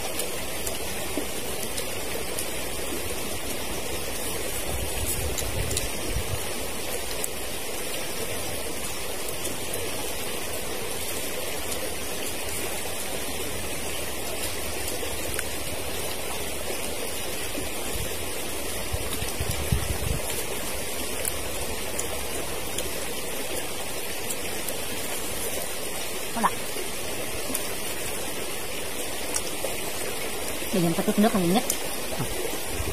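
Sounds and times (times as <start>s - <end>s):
stream rushing over rocks: 0.0s - 32.9s.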